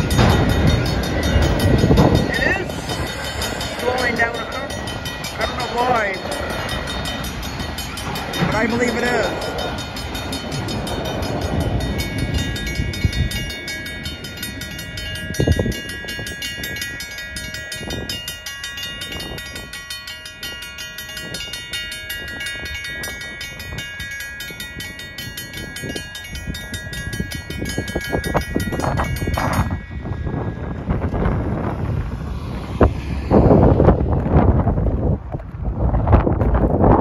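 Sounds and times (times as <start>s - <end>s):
railroad crossing bell ringing: 0.0s - 34.4s
freight train rumble: 0.0s - 37.0s
wind buffeting microphone: 0.0s - 37.0s.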